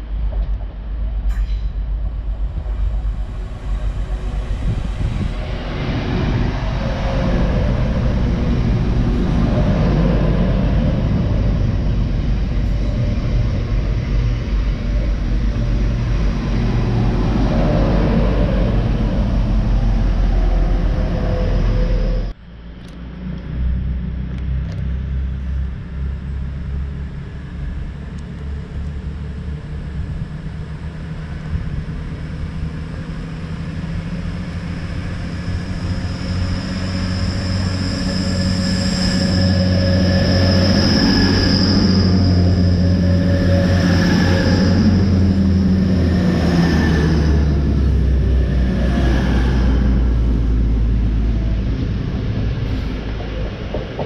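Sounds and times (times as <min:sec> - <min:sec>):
diesel train approaching: 0:00.0 - 0:54.0
high whine: 0:00.0 - 0:54.0
train engines and wheels rumbling: 0:00.0 - 0:54.0.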